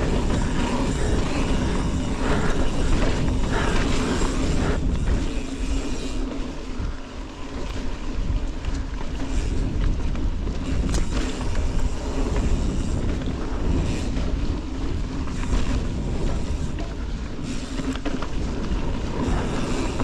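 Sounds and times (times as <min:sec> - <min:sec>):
knobby tyres rolling over dirt: 0:00.0 - 0:20.0
wind noise on microphone: 0:00.0 - 0:20.0.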